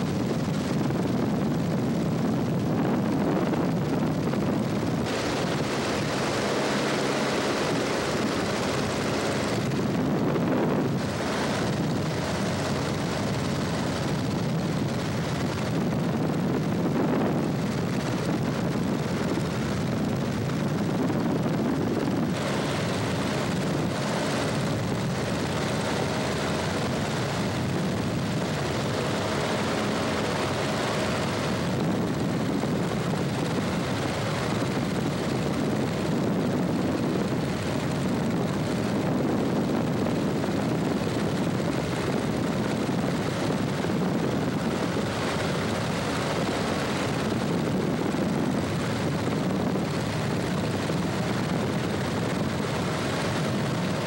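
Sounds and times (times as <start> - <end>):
aircraft engine and propeller droning: 0.0 - 54.0
wind rush: 0.0 - 54.0.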